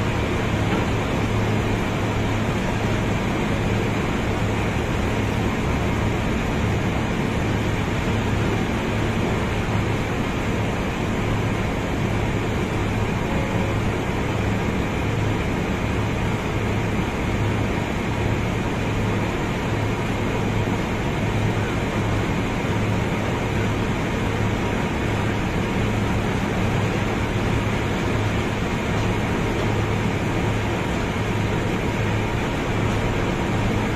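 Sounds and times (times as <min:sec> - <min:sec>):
machinery pulsing hum: 0:00.0 - 0:33.9.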